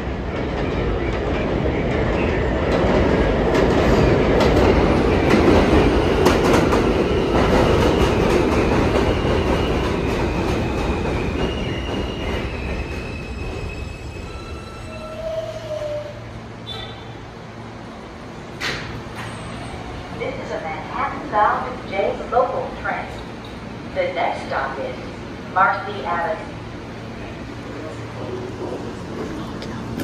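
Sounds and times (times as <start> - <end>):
subway train wheels clattering on rails: 0.0 - 30.0.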